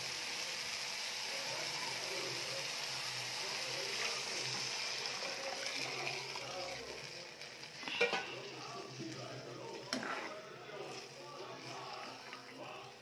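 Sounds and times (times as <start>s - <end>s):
liquid sizzling in hot pan: 0.0s - 13.0s.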